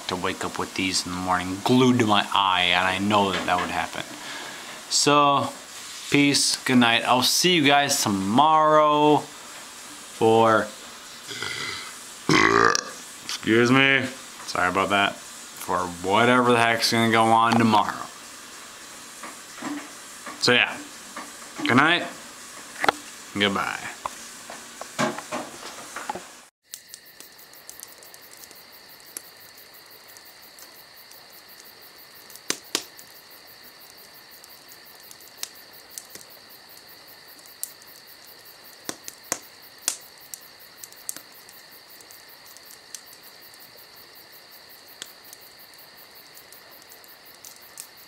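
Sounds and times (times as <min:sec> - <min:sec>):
crickets chirping: 0:00.0 - 0:48.0
wood fire crackling and popping: 0:00.0 - 0:48.0.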